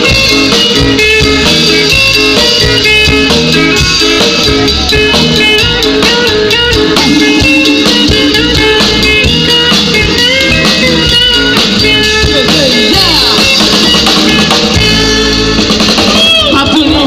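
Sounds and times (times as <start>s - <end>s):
drum kit playing: 0.0s - 17.0s
electric guitar with sliding notes: 0.0s - 17.0s.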